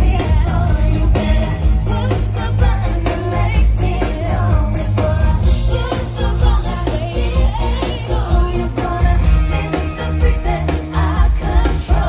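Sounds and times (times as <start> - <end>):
live pop band playing: 0.0 - 12.0
woman singing: 0.0 - 12.0.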